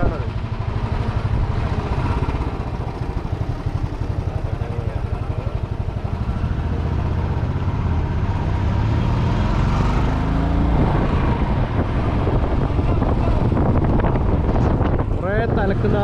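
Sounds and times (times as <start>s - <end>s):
motorcycle engine running: 0.0s - 8.7s, 10.7s - 16.0s.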